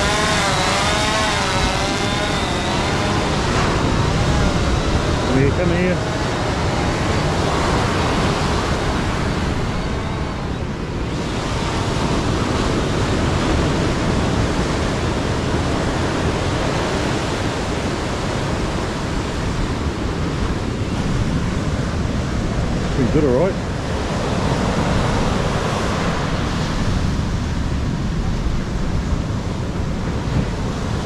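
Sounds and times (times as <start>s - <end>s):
surf breaking on a beach: 0.0s - 31.0s
wind buffeting the microphone: 0.0s - 31.0s.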